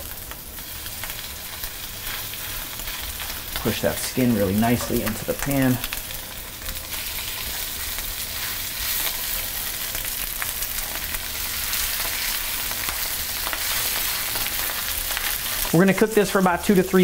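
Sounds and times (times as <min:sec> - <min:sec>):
fish sizzling in a skillet: 0:00.0 - 0:17.0.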